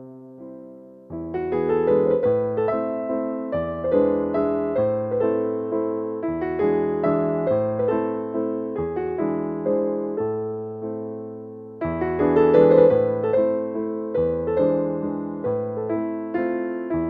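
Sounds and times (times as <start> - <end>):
soft electric piano: 0.0 - 17.0.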